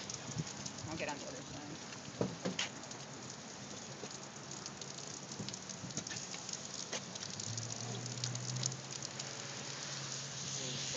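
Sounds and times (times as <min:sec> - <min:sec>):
rain pattering: 0:00.0 - 0:10.9.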